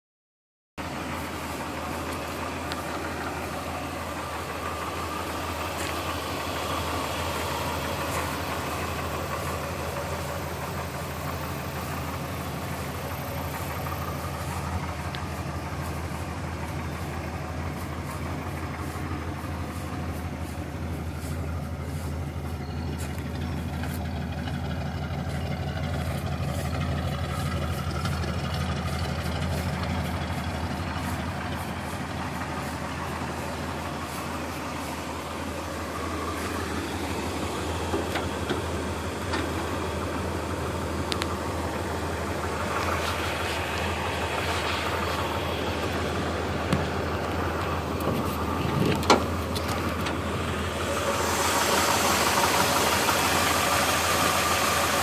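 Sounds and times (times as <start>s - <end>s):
truck engine idling: 0.8s - 55.0s.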